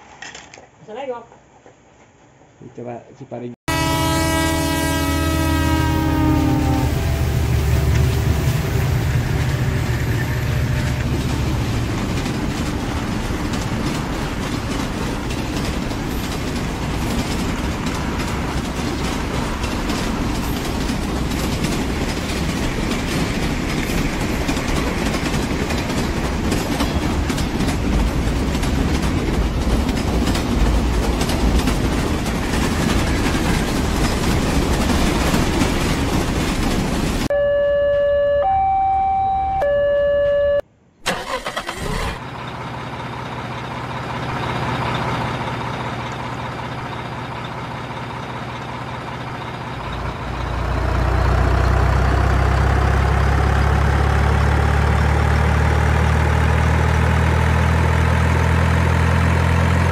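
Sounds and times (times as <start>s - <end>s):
train rumbling: 3.7s - 37.3s, 41.1s - 59.9s
wheels clickety-clack on rails: 6.1s - 37.3s, 42.2s - 59.9s.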